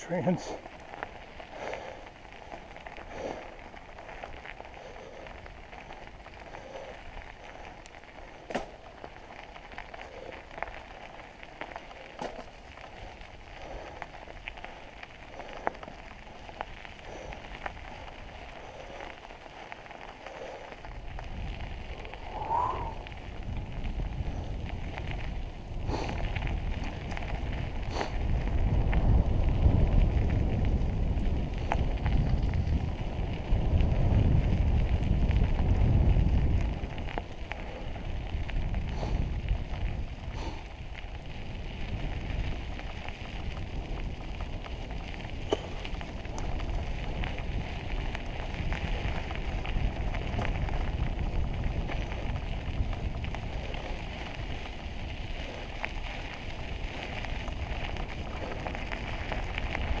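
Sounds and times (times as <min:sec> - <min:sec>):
bike clicks and rattles: 0:00.0 - 1:00.0
bike tyres crunching on gravel: 0:00.0 - 1:00.0
wind rumble on microphone: 0:00.0 - 1:00.0.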